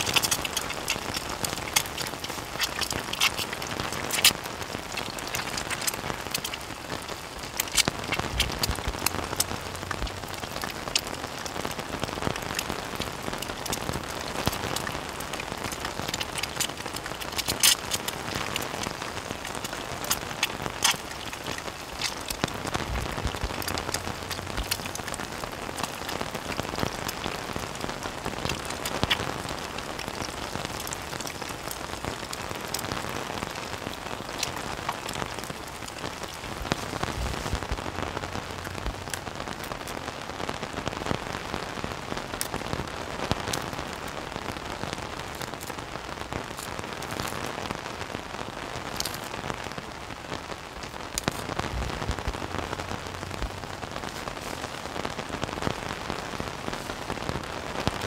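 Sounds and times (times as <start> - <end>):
sharp raindrop hits: 0.0 - 58.0
steady rain falling: 0.0 - 58.0.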